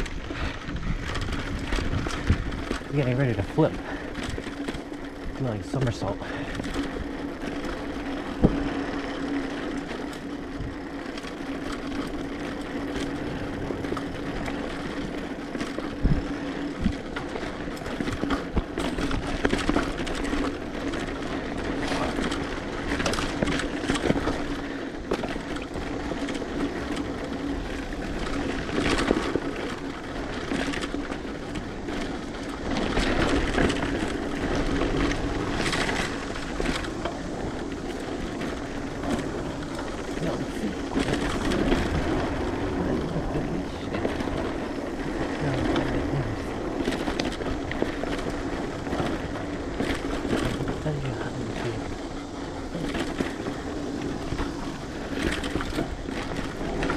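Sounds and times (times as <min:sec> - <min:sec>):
bike tyre and drivetrain rattle: 0:00.0 - 0:56.9.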